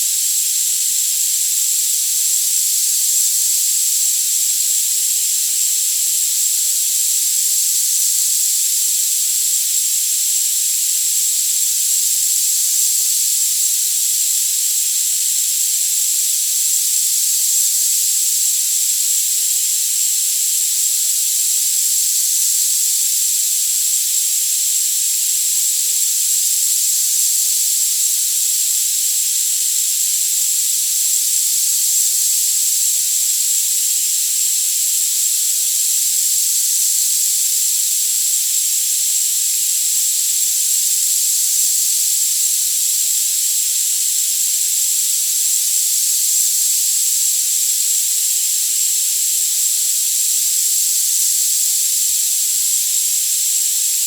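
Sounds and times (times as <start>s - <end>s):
steady high hiss: 0.0s - 54.0s.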